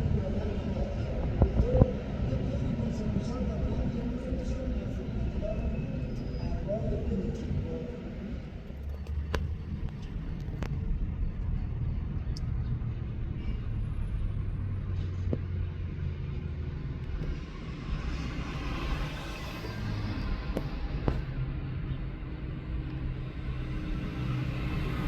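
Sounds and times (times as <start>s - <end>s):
vehicle engine low rumble: 0.0s - 25.0s.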